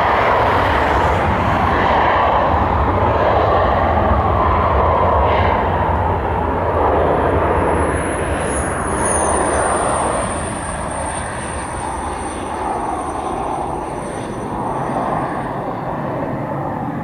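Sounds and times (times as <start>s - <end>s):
jet roar with high whine: 0.0s - 17.0s.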